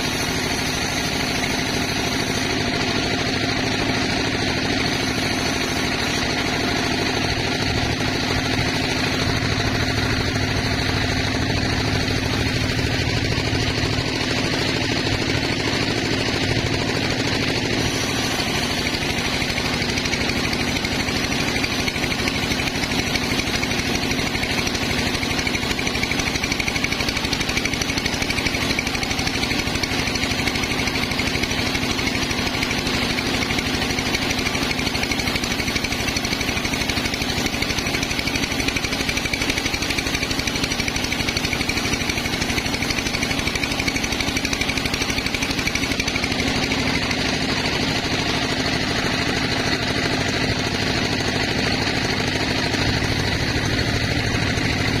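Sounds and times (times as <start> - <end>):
sawmill machinery rattling: 0.0 - 55.0.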